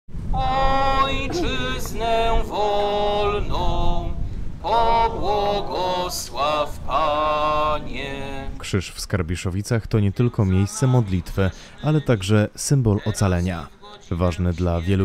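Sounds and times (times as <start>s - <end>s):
person singing a prayer: 0.3s - 8.6s, 10.0s - 15.0s.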